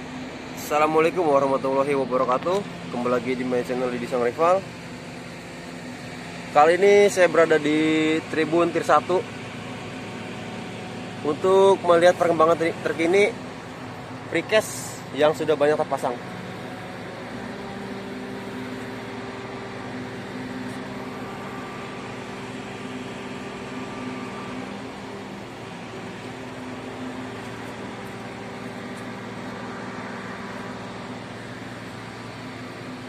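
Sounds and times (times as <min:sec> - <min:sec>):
construction machinery droning: 0:00.0 - 0:33.0.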